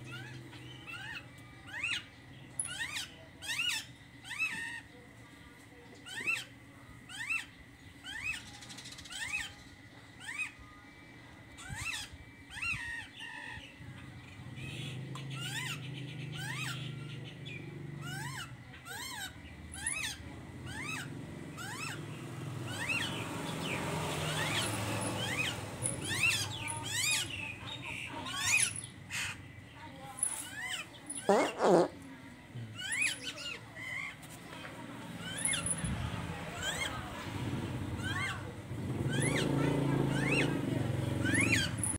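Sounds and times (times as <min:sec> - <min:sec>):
songbird chirping: 0:00.0 - 0:41.9.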